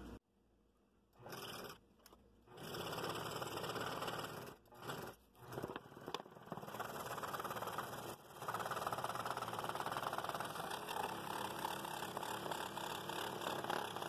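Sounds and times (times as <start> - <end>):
scroll saw buzzing through wood: 1.2 - 14.0.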